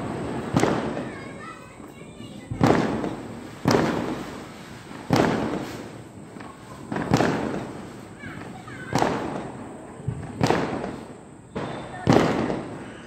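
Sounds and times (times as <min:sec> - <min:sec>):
firecracker bangs with echo: 0:00.0 - 0:13.0.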